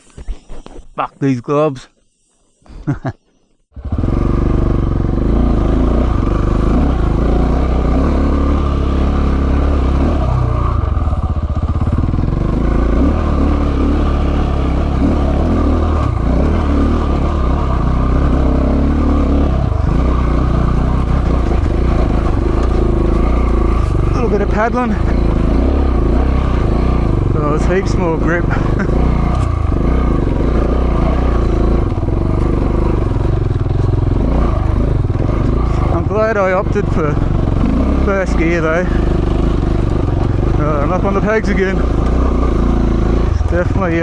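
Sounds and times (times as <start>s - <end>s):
motorcycle engine climbing hill: 0.0s - 44.0s.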